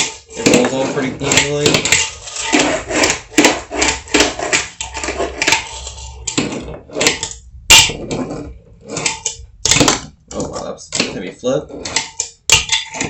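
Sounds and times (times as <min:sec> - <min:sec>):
fingerboard wheels rumbling on wood: 0:00.0 - 0:12.0.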